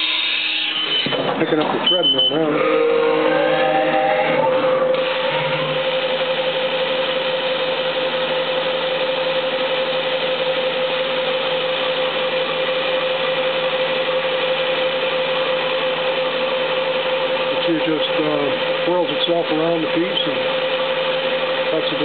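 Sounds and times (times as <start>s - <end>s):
milling machine spindle whine: 0.0s - 22.0s.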